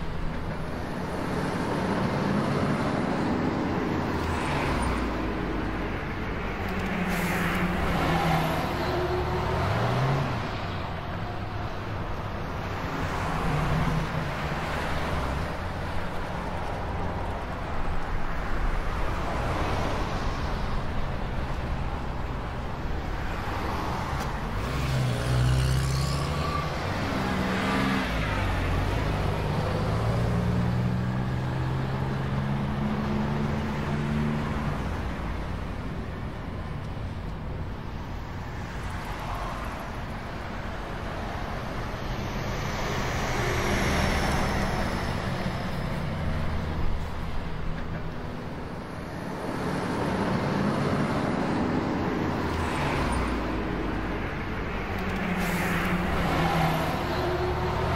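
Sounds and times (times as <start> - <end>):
tyre and road noise: 0.0 - 57.9.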